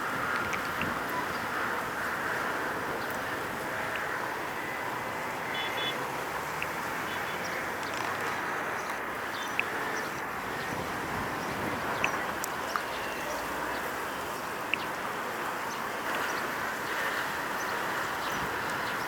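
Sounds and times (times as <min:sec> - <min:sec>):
outdoor hiss and rumble: 0:00.0 - 0:19.0.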